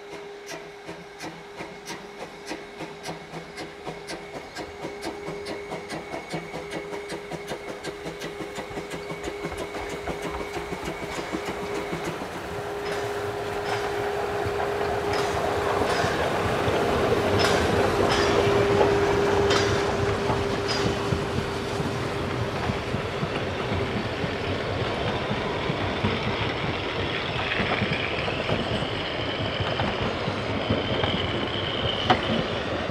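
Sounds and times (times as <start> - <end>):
steady steam tone: 0.0 - 32.9
steam locomotive chuffing: 0.0 - 32.9
train wheels clicking over rail joints: 0.0 - 32.9.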